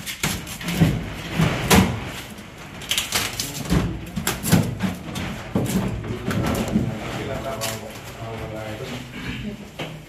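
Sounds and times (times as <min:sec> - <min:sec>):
low uneven murmur: 0:00.8 - 0:10.0.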